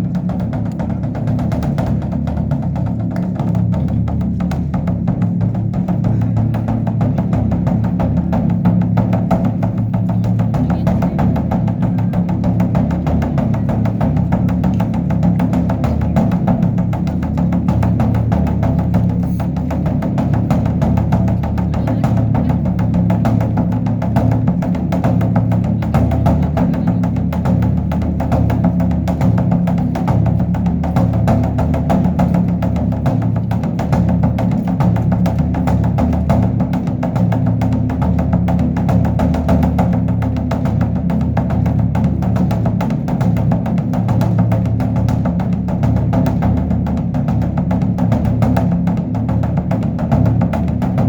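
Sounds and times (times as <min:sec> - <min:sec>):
large drum beaten rapidly: 0:00.0 - 0:51.0.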